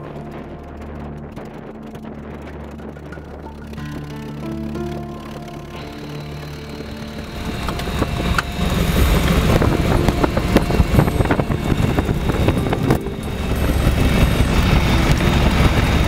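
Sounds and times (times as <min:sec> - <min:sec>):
piston aircraft engine rumble: 0:00.0 - 0:16.0.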